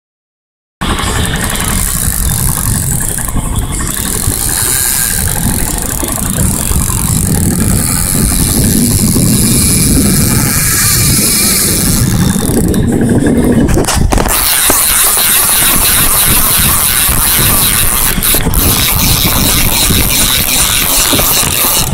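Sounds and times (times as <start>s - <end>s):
boat engine rumbling: 0.8s - 21.9s
wind on microphone: 0.8s - 21.9s.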